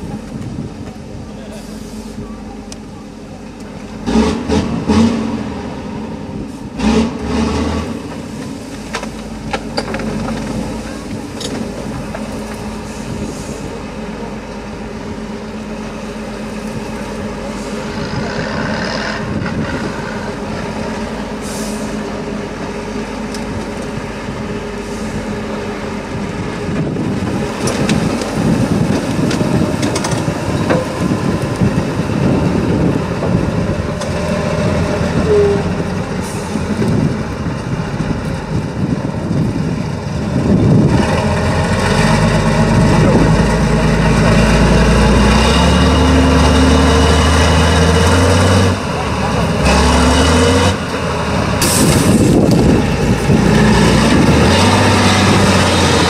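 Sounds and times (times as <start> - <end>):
truck diesel engine under load: 0.0 - 56.0.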